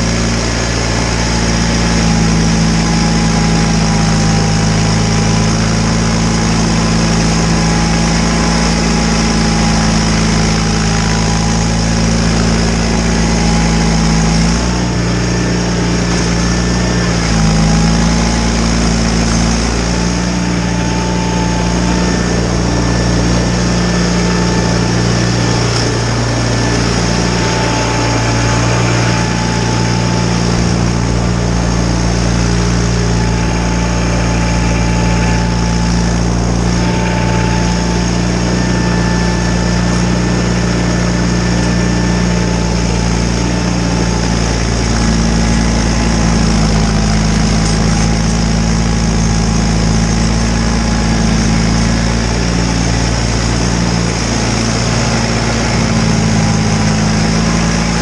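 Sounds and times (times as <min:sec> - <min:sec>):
faint steady whine: 0:00.0 - 0:58.0
tractor engine running: 0:00.0 - 0:58.0.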